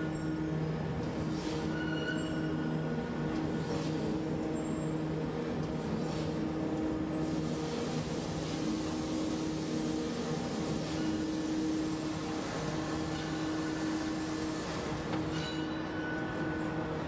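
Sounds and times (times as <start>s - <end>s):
machinery humming: 2.4s - 17.0s.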